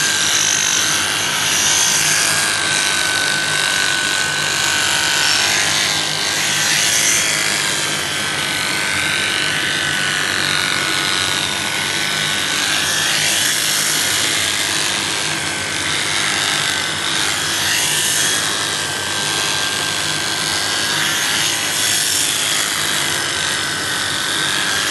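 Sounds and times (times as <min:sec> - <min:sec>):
electric clippers shearing wool: 0:00.0 - 0:24.9.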